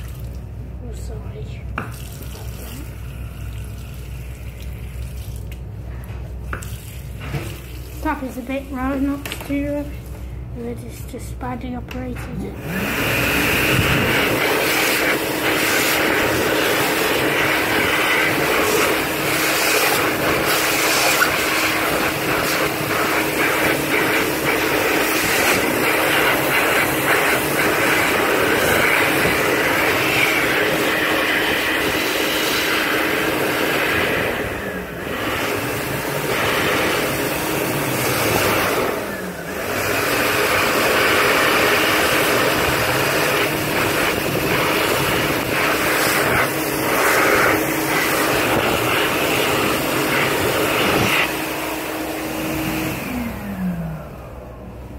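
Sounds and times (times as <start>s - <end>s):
hand dryer blowing air: 0.0s - 54.9s.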